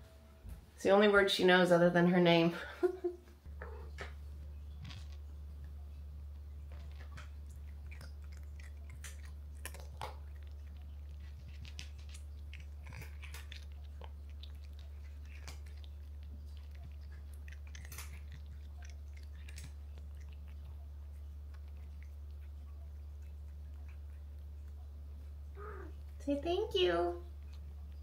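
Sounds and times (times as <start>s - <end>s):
steady low hum: 0.0s - 28.0s
cat crunching treats: 3.5s - 26.2s, 27.2s - 28.0s.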